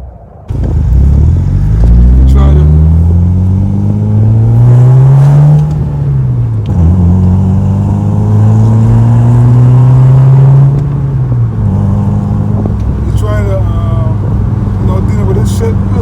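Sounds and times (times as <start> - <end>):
car engine accelerating: 0.5 - 16.0.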